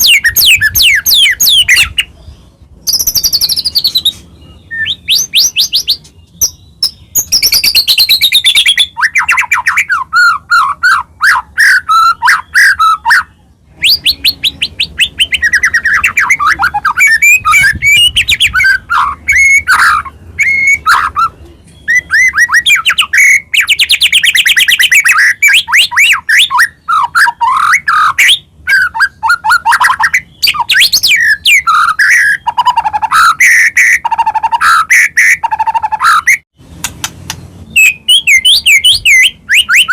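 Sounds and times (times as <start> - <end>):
songbird singing varied whistles: 0.0 - 36.4, 37.3 - 39.9.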